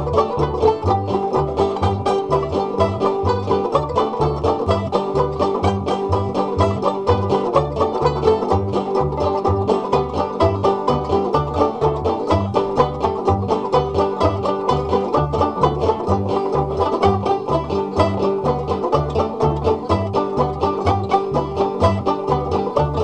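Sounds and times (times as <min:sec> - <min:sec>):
bluegrass banjo music: 0:00.0 - 0:23.0
steady bass beat: 0:00.0 - 0:23.0.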